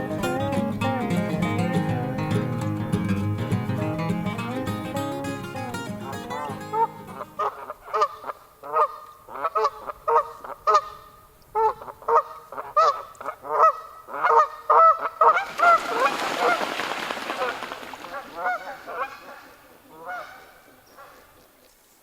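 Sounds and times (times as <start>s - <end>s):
large birds honking: 0.0s - 21.4s.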